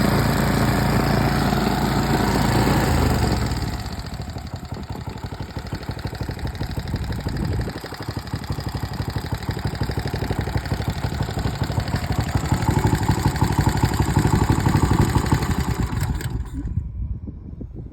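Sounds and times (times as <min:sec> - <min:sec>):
single-cylinder engine running: 0:00.0 - 0:16.8.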